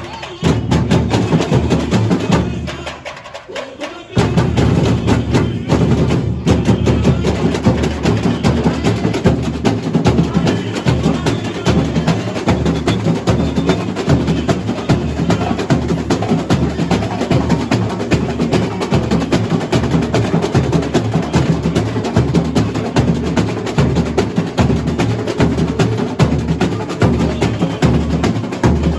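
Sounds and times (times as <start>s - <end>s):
snare drums: 0.0s - 28.9s.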